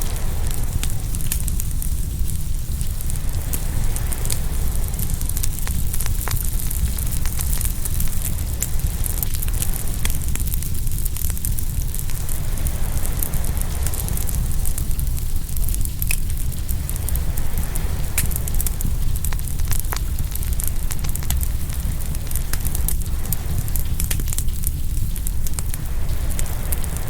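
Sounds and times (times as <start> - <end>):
low rumble: 0.0 - 27.0
wood fire crackling and popping: 0.0 - 27.0.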